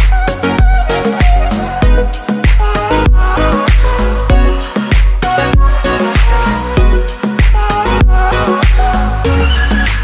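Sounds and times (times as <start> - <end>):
background music with deep bass: 0.0 - 10.0.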